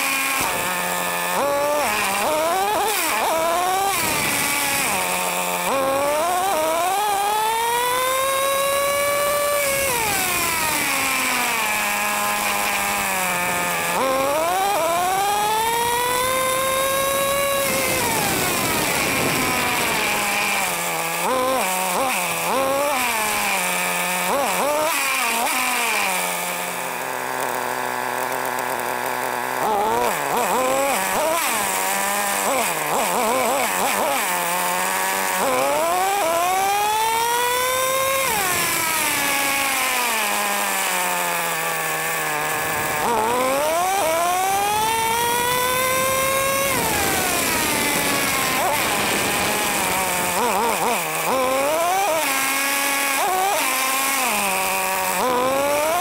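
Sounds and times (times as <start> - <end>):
small nitro engine revving: 0.0 - 56.0.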